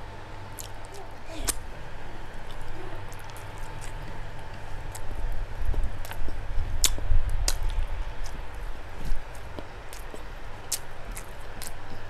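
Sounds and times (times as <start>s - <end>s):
mouth chewing with wet smacking: 0.4s - 12.0s.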